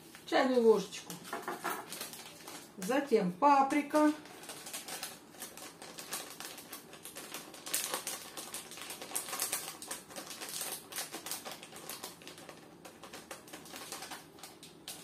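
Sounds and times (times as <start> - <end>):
paper sachet crinkling: 0.0 - 3.1, 3.7 - 15.0.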